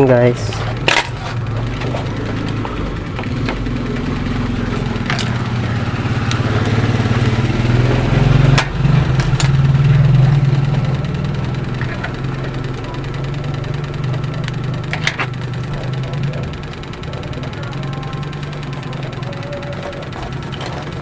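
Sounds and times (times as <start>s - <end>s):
engine running with low hum: 0.0s - 21.0s
sharp clicks: 0.5s - 21.0s.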